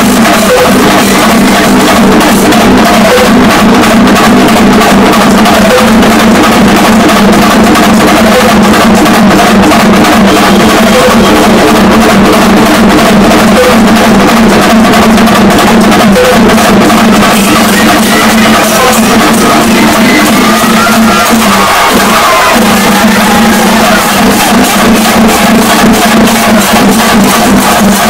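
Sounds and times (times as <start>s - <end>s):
drums beaten with sticks: 0.0s - 28.0s.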